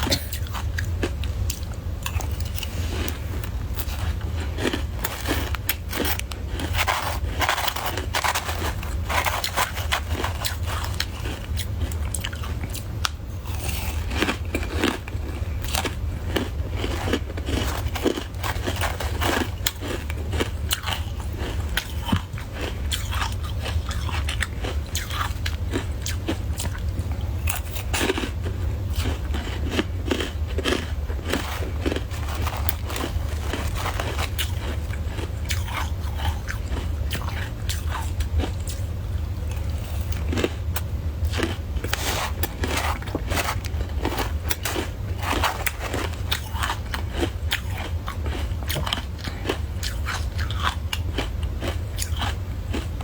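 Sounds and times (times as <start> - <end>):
person chewing crunchy ice: 0.0 - 53.0
steady low hum: 0.0 - 53.0.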